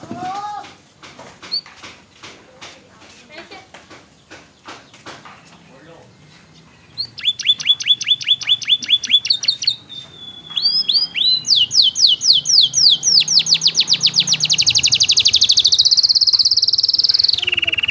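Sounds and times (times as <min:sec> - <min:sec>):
canary singing: 0:00.8 - 0:02.0, 0:03.3 - 0:17.9.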